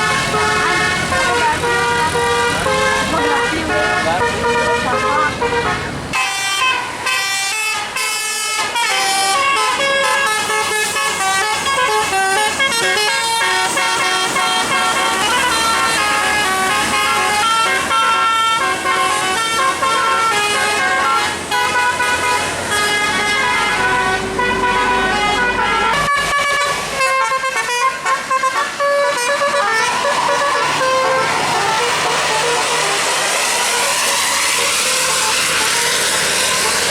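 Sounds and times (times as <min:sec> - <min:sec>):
musical air horn melody: 0:00.0 - 0:36.9.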